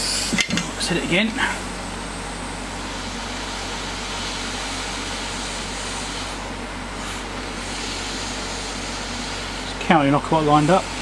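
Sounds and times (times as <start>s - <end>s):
hot air blower rushing: 0.0s - 11.0s.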